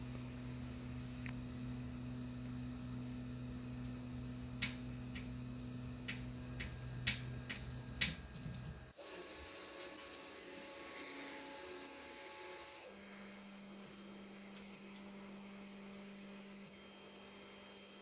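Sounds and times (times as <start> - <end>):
higher steady whir: 0.0 - 18.0
stepper motors humming: 0.0 - 18.0.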